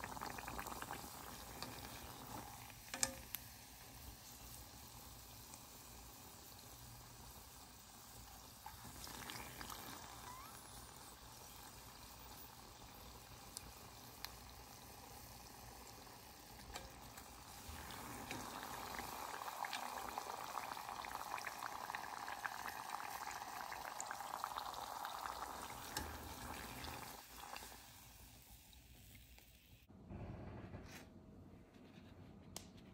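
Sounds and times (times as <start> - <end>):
food sizzling in hot fat: 0.0 - 29.9.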